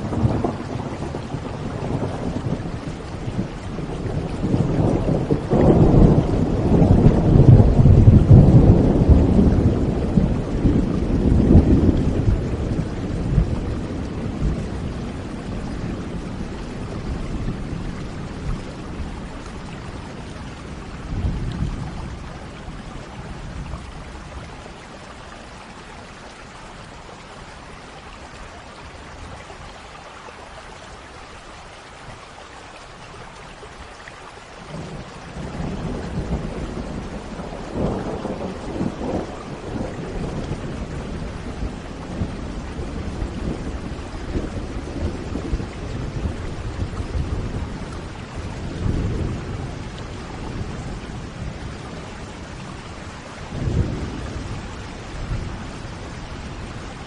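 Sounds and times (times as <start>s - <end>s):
rolling thunder: 0.0s - 24.5s, 34.7s - 57.0s
steady rain falling: 0.0s - 57.0s.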